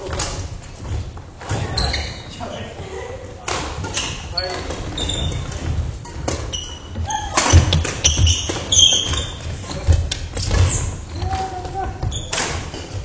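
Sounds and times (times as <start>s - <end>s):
sneakers squeaking on floor: 0.8s - 2.6s, 3.8s - 13.0s.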